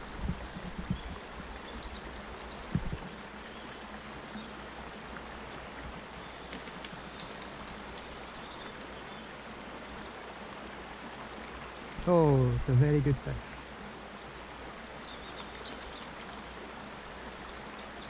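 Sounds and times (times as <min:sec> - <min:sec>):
birds chirping: 0:00.0 - 0:11.0, 0:14.3 - 0:18.0
river water rushing: 0:01.2 - 0:18.0.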